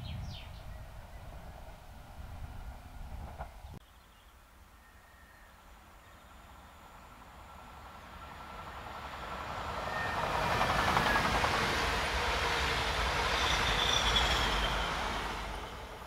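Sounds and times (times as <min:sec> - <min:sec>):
train passing with rumble: 0:00.0 - 0:03.8, 0:05.7 - 0:16.0.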